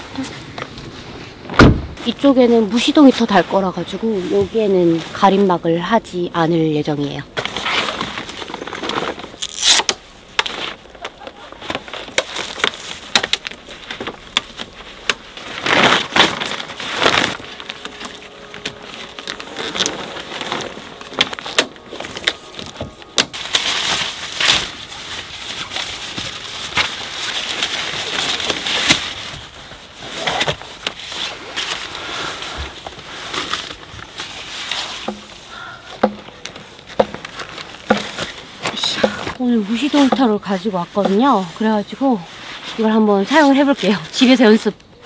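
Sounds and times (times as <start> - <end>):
gear rustling and crinkling: 0.0 - 6.3, 6.9 - 44.7.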